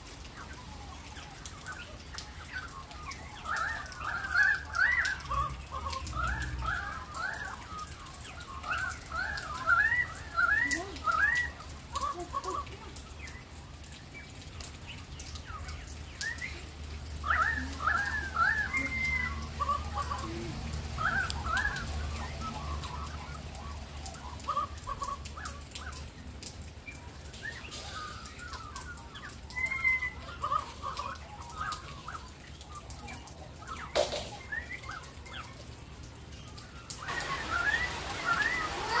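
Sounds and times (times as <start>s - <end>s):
magpies carolling: 0.2s - 39.0s.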